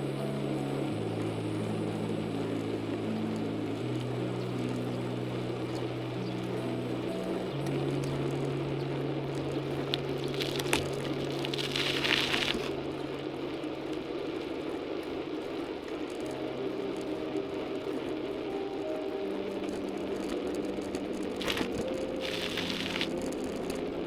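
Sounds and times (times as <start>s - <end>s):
motor hum: 0.0s - 24.0s.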